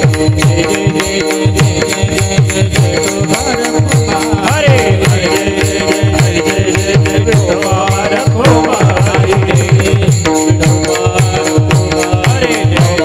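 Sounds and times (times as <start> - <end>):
hand drum fast strokes: 0.0 - 13.0
harmonium held notes: 0.0 - 13.0
voices singing: 0.0 - 13.0.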